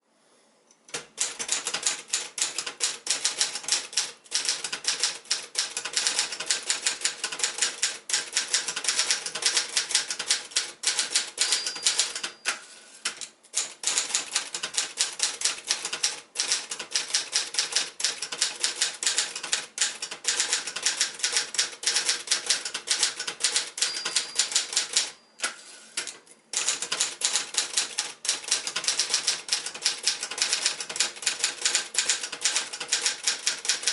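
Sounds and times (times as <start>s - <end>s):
manual typewriter typing: 0.9s - 33.9s.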